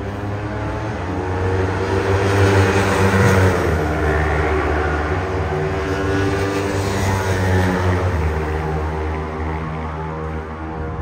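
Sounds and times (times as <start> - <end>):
racing motorcycles passing: 0.0 - 11.0.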